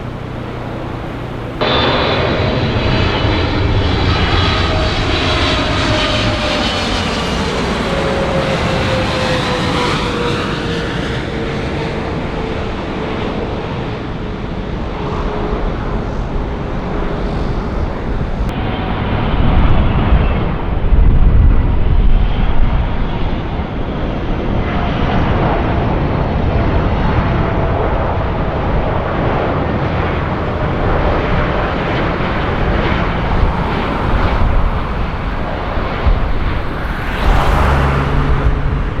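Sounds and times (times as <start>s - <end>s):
low engine rumble: 0.0s - 13.2s, 17.9s - 39.0s
jet engines rushing and whining: 0.0s - 39.0s.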